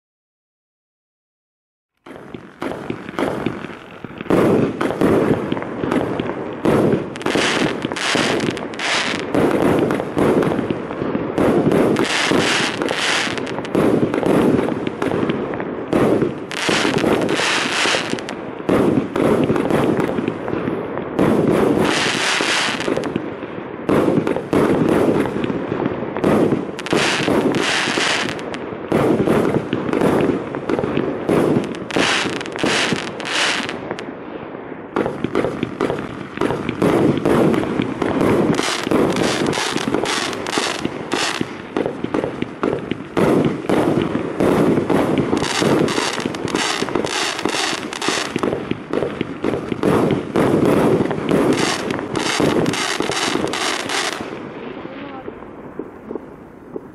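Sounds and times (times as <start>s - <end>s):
fireworks hiss: 2.0s - 34.0s, 34.9s - 56.9s
fireworks launch thumps and bursts: 2.0s - 34.1s, 34.9s - 54.5s.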